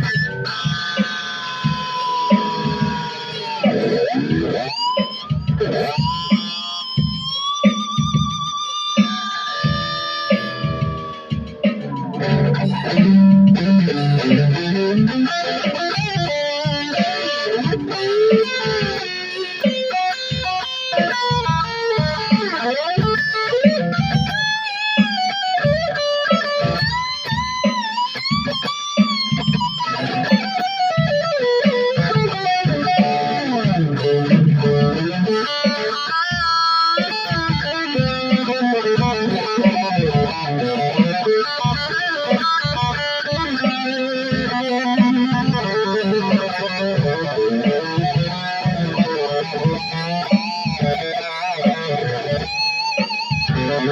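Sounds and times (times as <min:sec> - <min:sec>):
electric guitar solo: 0:00.0 - 0:53.9.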